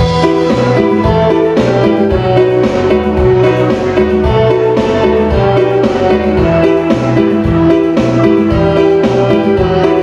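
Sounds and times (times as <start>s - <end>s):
held melody notes: 0.0s - 10.0s
percussive beat: 0.0s - 10.0s.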